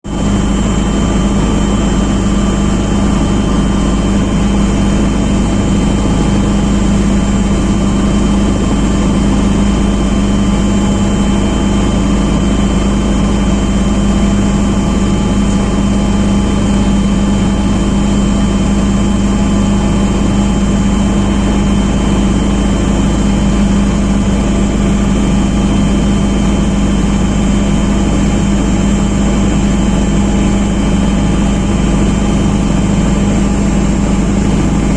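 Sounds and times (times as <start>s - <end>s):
engine running with low hum: 0.0s - 34.9s.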